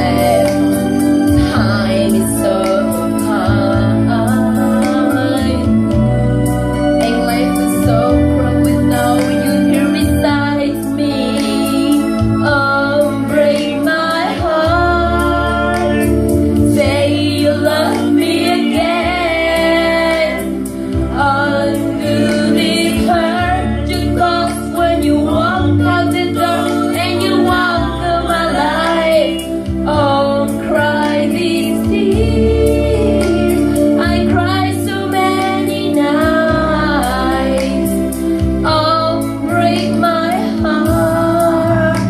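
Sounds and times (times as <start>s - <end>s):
backing music: 0.0s - 42.0s
woman singing into microphone: 0.0s - 42.0s.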